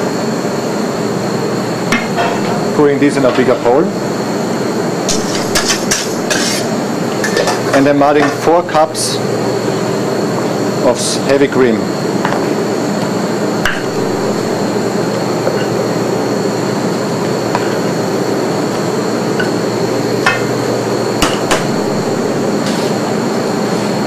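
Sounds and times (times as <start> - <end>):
machine drone with high whine: 0.0 - 24.0.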